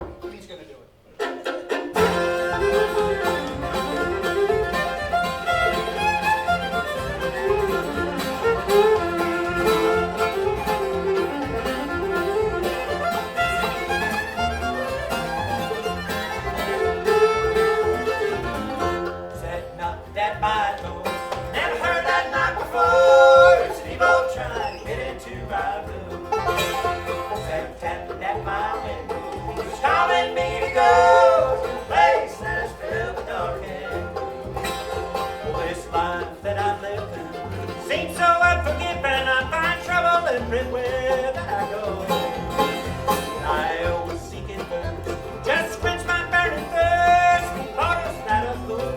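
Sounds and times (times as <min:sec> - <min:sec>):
bluegrass band playing: 0:00.0 - 0:48.9.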